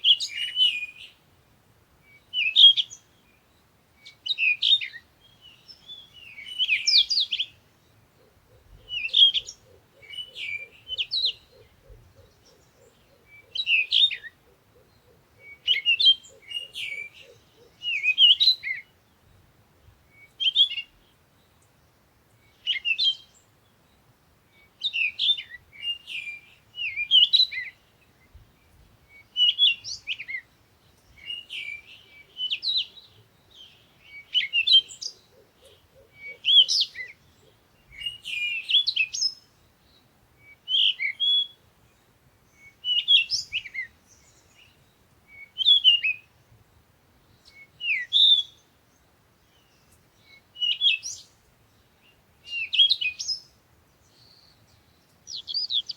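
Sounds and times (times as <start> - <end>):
songbird chirping: 0.0 - 55.9.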